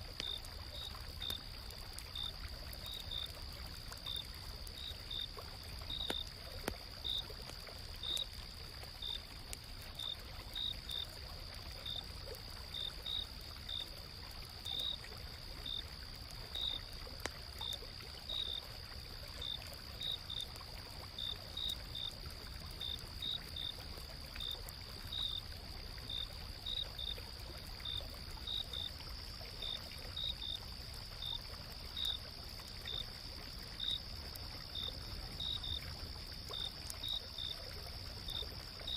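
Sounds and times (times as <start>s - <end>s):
faint campfire crackles: 0.0s - 38.9s
insects trilling and chirping: 0.0s - 38.9s
stream flowing: 0.0s - 38.9s.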